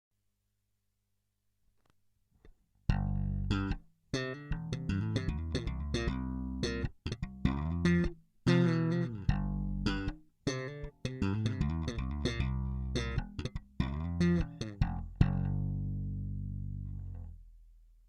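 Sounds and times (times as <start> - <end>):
plucked electric bass guitar: 2.9 - 17.6.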